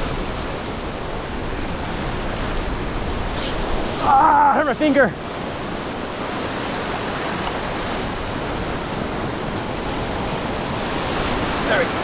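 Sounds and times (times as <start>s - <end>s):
surf washing around legs: 0.0s - 12.0s.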